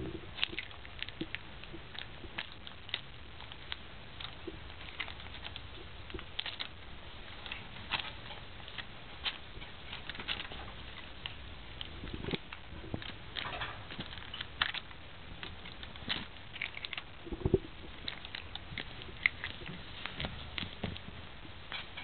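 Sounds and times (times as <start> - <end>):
cat gnawing stick toy: 0.0 - 22.0.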